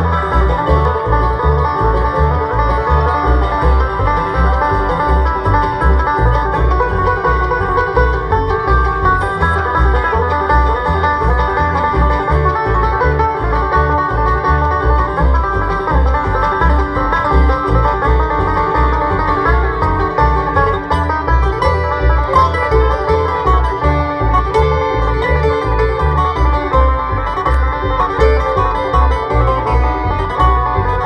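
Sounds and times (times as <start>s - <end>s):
banjo: 0.0s - 31.0s
fiddle: 0.0s - 31.0s
guitar: 0.0s - 31.0s
upright bass beat: 0.0s - 31.0s.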